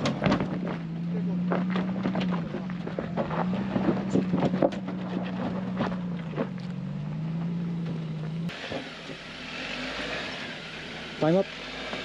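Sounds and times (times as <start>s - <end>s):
off-road vehicle engine crawling: 0.0s - 12.0s
tires crunching over rock: 0.0s - 12.0s.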